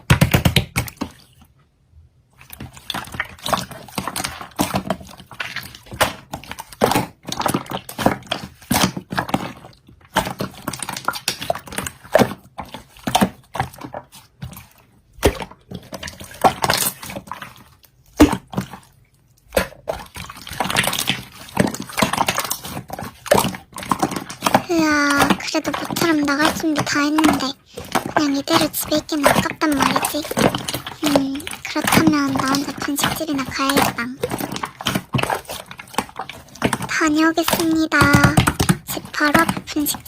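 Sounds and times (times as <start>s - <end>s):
slime squelching by hand: 0.0s - 40.0s.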